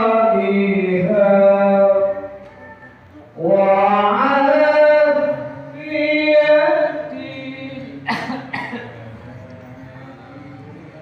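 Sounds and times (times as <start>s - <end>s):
man singing a slow chant: 0.0s - 2.4s, 3.3s - 11.0s.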